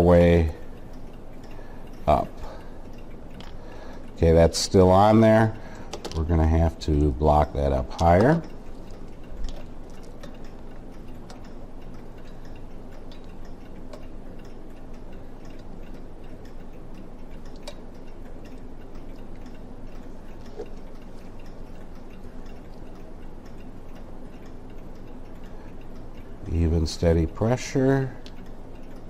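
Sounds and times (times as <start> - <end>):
low steady hum: 0.0 - 29.0
mechanical clock ticking: 0.0 - 29.0.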